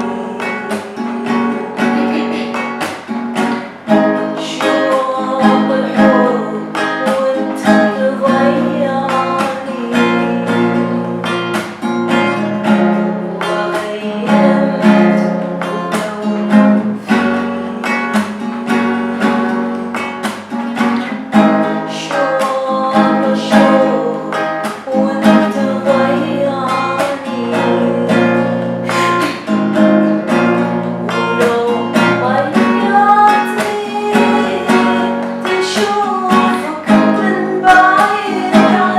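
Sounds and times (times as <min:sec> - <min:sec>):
person singing: 0:00.0 - 0:19.6, 0:20.8 - 0:38.9
acoustic guitar strumming: 0:00.0 - 0:38.9.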